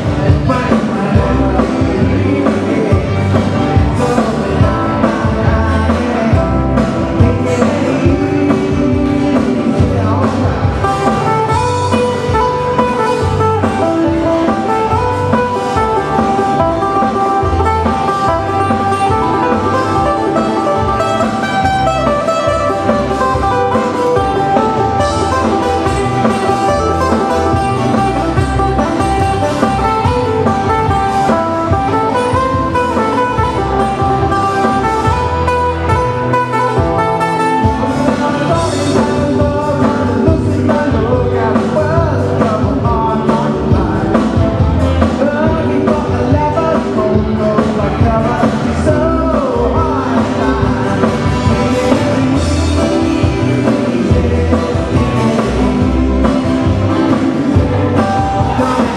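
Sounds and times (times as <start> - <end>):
plucked guitar melody: 0.0 - 58.9
steady bass beat: 0.0 - 58.9.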